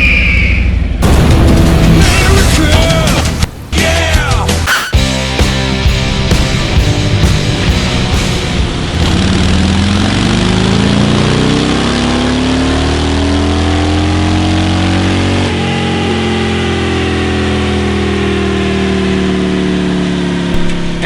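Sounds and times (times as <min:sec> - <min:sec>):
motorcycle engine revving: 0:00.8 - 0:21.0.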